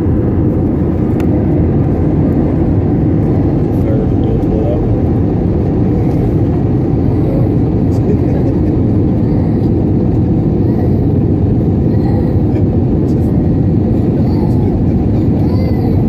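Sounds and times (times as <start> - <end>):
jet airliner cabin rumble: 0.0 - 16.0.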